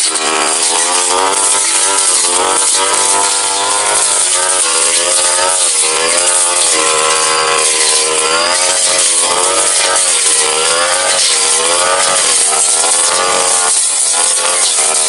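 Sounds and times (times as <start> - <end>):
brush cutter engine at high throttle: 0.0 - 15.0.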